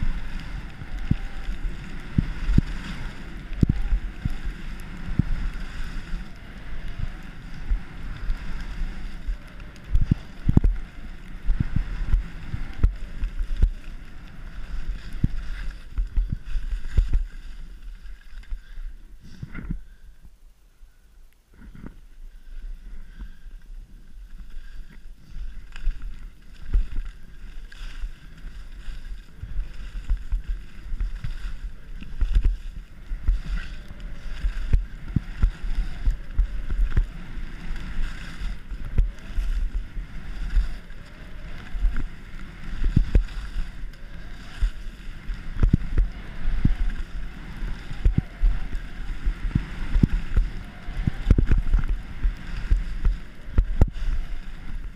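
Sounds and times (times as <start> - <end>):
thumps and rumbles from skis: 0.0 - 20.0, 23.0 - 54.9
wind rushing over microphone: 0.0 - 20.4, 21.5 - 54.9.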